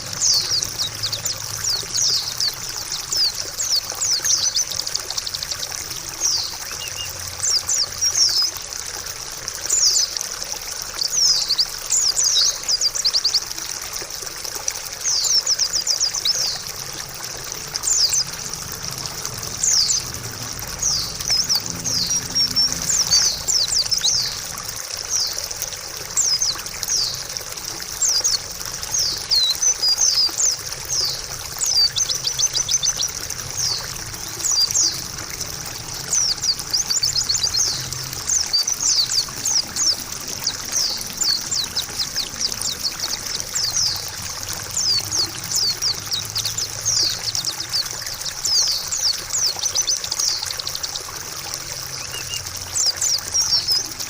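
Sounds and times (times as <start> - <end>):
bird chirps and trills: 0.0 - 14.0, 14.6 - 54.0
trickling water: 0.0 - 54.0.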